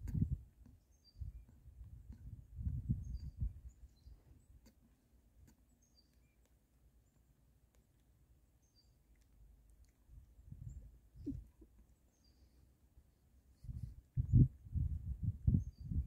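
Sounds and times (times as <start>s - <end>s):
faint outdoor background noise: 0.0s - 16.0s
small birds chirping: 0.0s - 16.0s.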